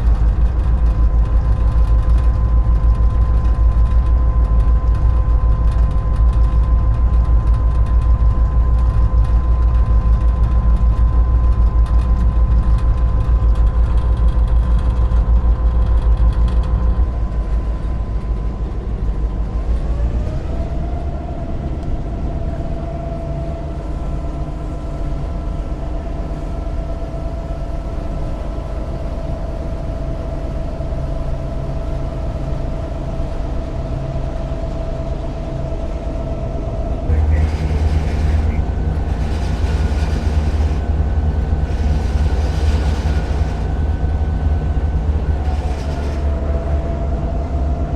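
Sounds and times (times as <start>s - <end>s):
locomotive engine rumble: 0.0s - 47.9s
locomotive whine: 0.0s - 47.9s.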